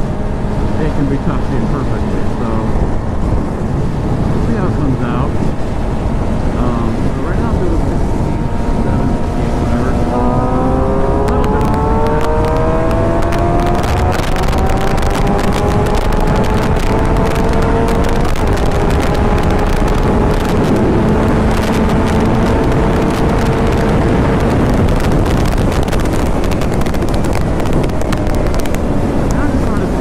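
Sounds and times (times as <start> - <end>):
motorcycle engine running: 0.0 - 30.0
wind buffeting: 0.0 - 30.0.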